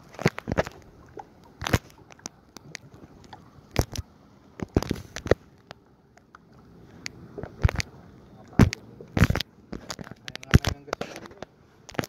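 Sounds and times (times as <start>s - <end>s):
small waves slapping hull: 0.0s - 12.0s.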